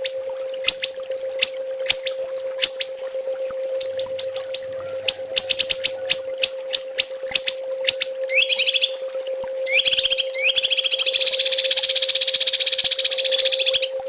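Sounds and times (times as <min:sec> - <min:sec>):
buzzy bird trills: 0:00.0 - 0:03.0, 0:03.8 - 0:14.0
songbird calling: 0:00.0 - 0:03.0, 0:03.8 - 0:09.0, 0:09.7 - 0:14.0
low hum: 0:00.0 - 0:14.0.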